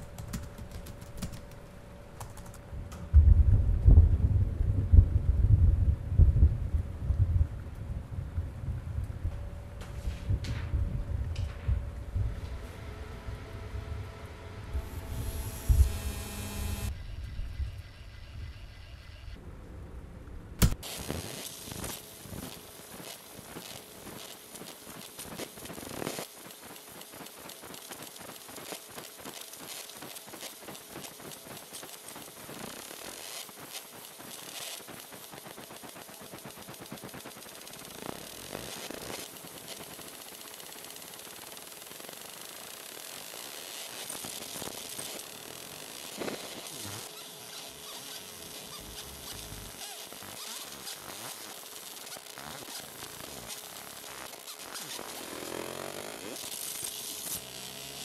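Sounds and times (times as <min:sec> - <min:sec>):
laser engraver crackling: 0:00.0 - 0:03.1, 0:12.5 - 0:19.4, 0:20.6 - 0:58.0.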